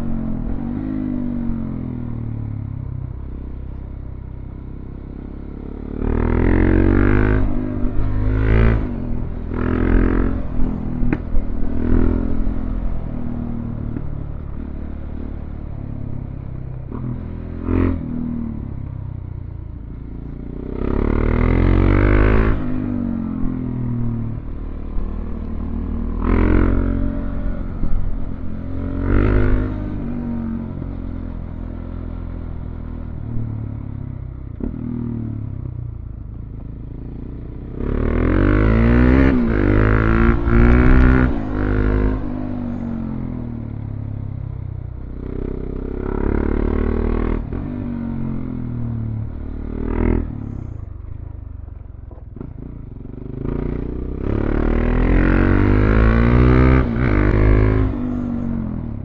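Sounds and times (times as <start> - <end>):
motorcycle engine revving: 4.5 - 59.0.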